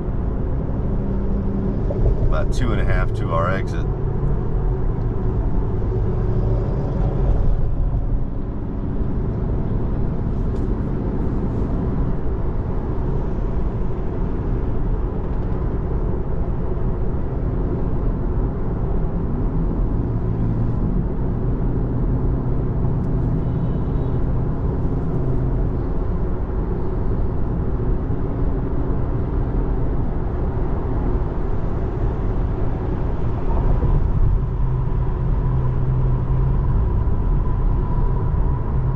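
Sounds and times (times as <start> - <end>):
road and tyre noise in car: 0.0 - 38.9.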